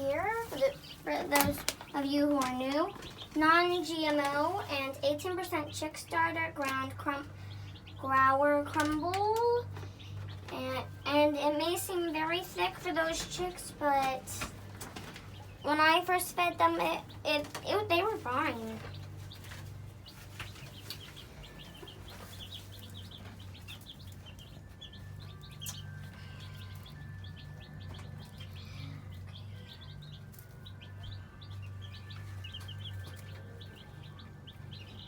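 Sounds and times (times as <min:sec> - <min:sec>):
baby chicks peeping: 0:00.0 - 0:35.0.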